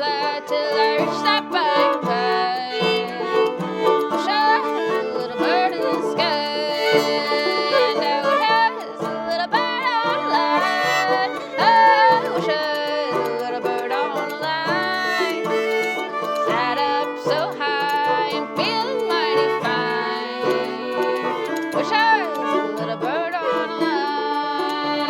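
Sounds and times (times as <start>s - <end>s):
fiddle melody: 0.0s - 25.0s
picked banjo: 0.0s - 25.0s.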